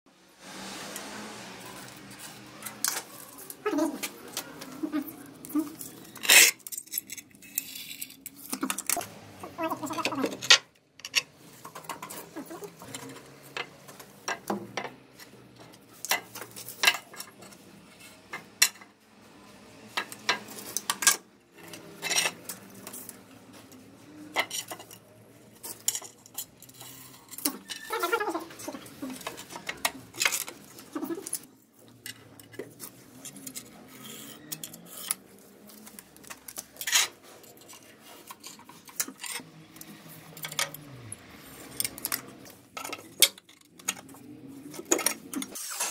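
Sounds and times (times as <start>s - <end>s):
floor tiles clinking and knocking: 2.2s - 19.0s, 19.9s - 45.9s.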